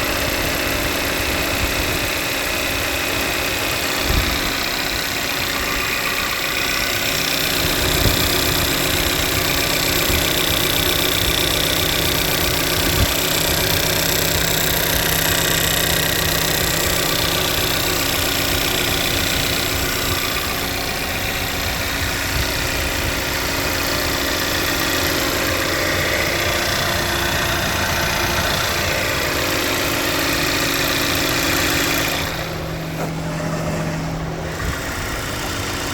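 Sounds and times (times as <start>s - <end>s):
car engine idling: 0.0s - 35.9s
engine ticking: 0.0s - 35.9s.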